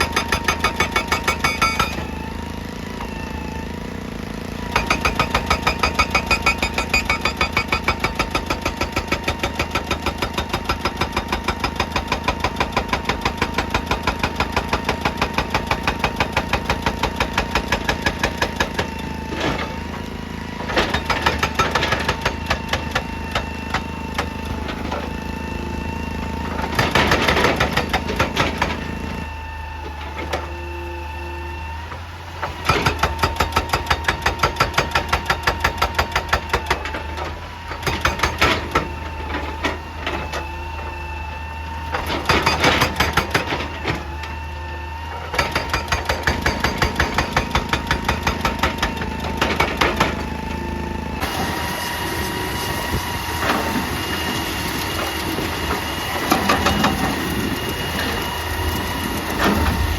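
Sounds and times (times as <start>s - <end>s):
hydraulic breaker hammering rock: 0.0s - 29.3s, 32.0s - 59.9s
excavator engine running: 0.0s - 59.9s.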